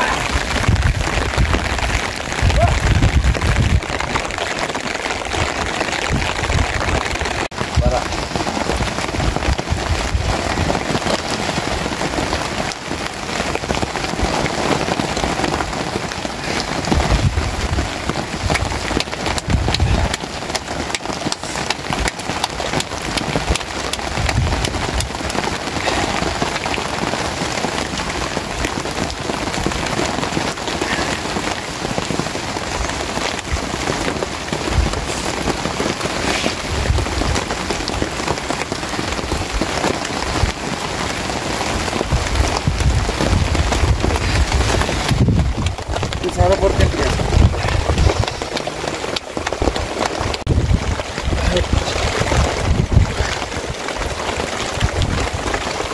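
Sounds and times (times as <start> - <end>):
rain on a tarp: 0.0 - 55.9.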